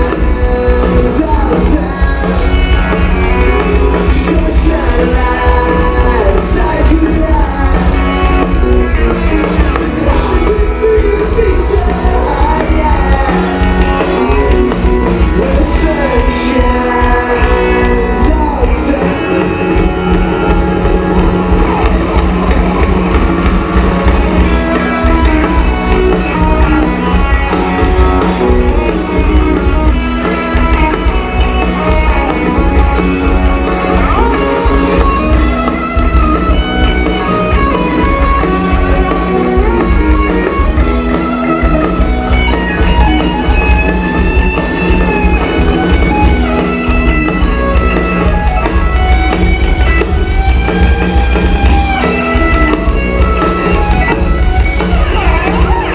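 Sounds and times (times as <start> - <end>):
electric guitar lines: 0.0 - 55.9
live rock band playing: 0.0 - 55.9.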